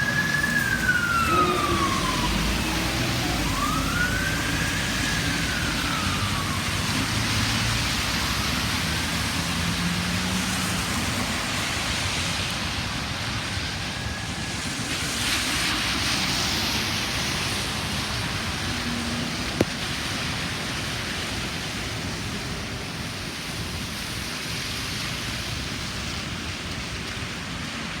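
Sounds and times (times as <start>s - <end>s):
emergency sirens wailing: 0.0s - 28.0s
road and wind noise: 0.0s - 28.0s.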